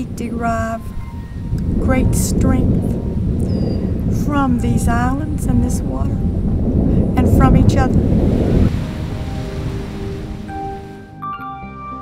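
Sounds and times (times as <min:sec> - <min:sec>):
wind and water hiss: 0:00.0 - 0:11.0
soft background music: 0:00.0 - 0:12.0.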